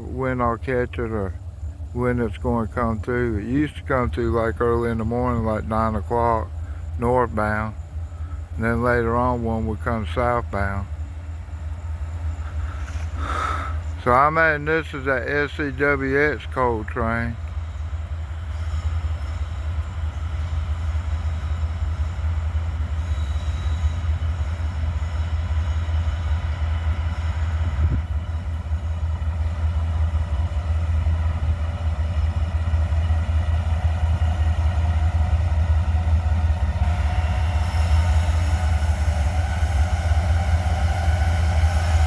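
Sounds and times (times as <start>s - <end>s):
locomotive engine rumble: 0.0s - 42.0s
wheel and rail noise: 0.0s - 42.0s.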